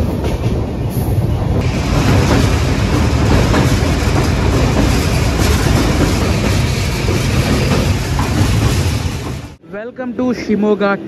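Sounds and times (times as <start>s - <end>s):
rail joint clicks: 0.0s - 9.6s
train wheels rumbling: 0.0s - 9.6s.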